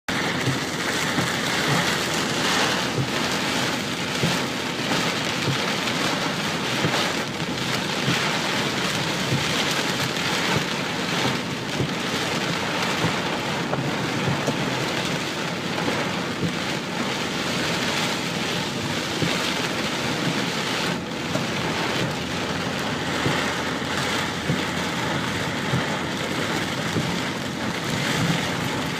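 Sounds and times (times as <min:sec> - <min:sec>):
heavy rain: 0:00.1 - 0:28.9.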